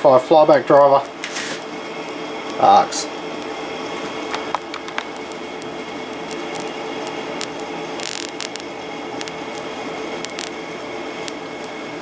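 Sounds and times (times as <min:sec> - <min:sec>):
electric arc crackles: 0:00.0 - 0:12.0
electric arc hissing: 0:00.3 - 0:12.0.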